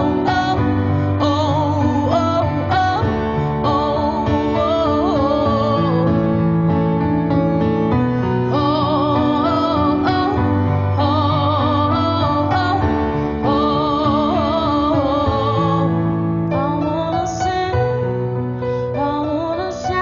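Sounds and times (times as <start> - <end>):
person singing with vibrato: 0.0 - 6.8, 8.2 - 20.0.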